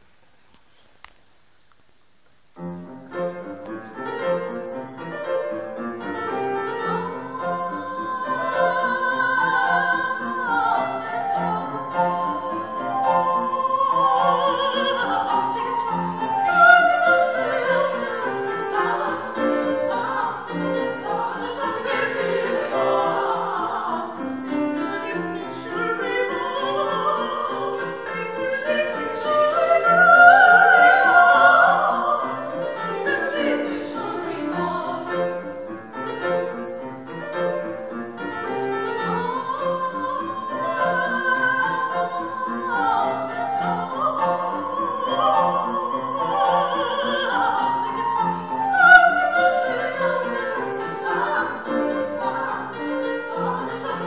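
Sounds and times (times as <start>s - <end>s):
grand piano chords: 2.5s - 54.0s
woman singing opera: 5.6s - 35.7s, 38.2s - 54.0s.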